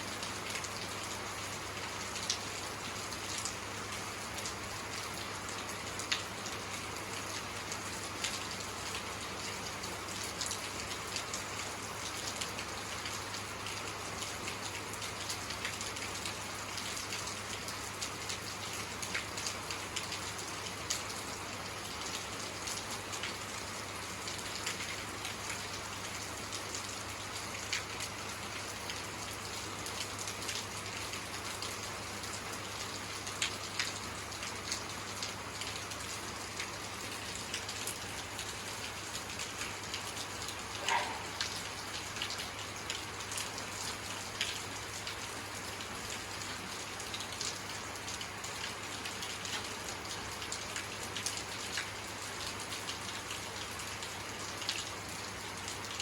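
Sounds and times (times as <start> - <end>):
raindrops pattering on a surface: 0.0 - 56.0
steady rainfall: 0.0 - 56.0.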